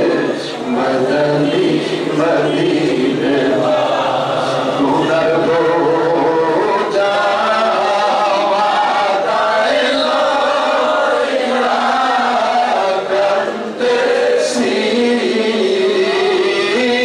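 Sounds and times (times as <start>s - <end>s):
man chanting into microphone: 0.0s - 11.0s, 12.0s - 17.0s.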